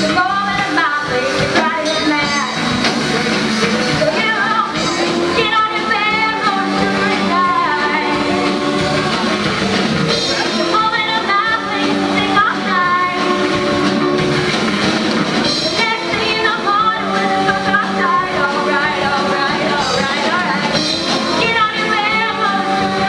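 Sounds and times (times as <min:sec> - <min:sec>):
drums: 0:00.0 - 0:23.0
electric guitar: 0:00.0 - 0:23.0
person singing with vibrato: 0:00.0 - 0:23.0.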